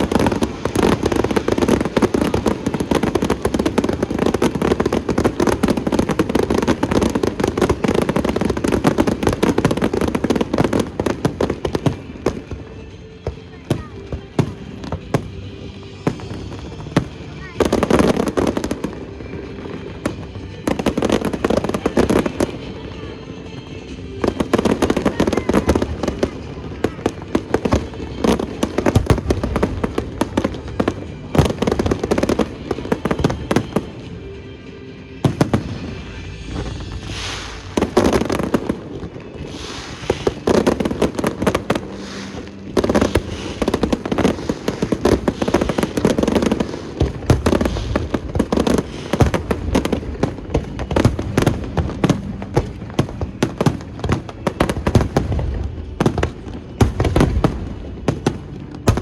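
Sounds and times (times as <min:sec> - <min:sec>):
fireworks exploding: 0:00.0 - 0:59.0
music playing: 0:00.0 - 0:59.0.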